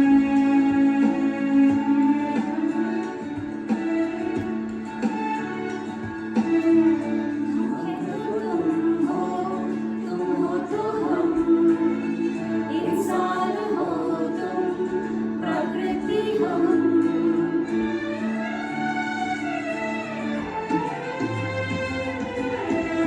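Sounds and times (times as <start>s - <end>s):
song with instrumental accompaniment: 0.0s - 23.0s.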